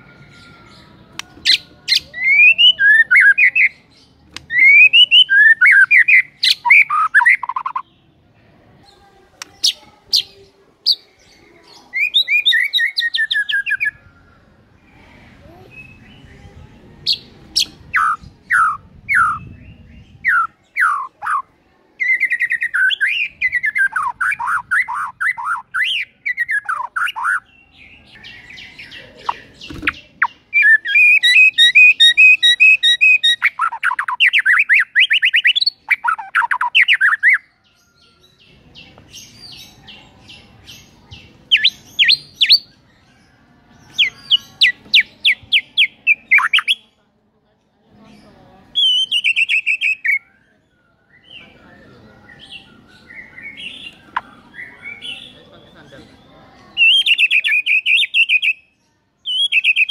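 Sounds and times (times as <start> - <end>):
bird singing varied song: 0.0 - 47.0, 47.9 - 59.9.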